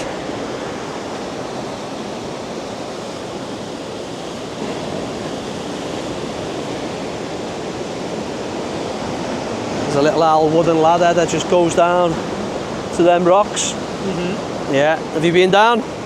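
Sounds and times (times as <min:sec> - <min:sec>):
heavy ocean surf breaking: 0:00.0 - 0:16.0.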